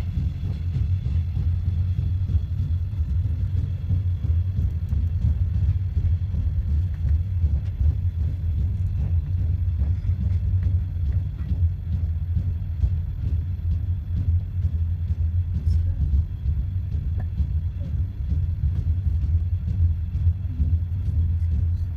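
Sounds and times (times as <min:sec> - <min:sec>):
train rumbling along track: 0:00.0 - 0:21.9.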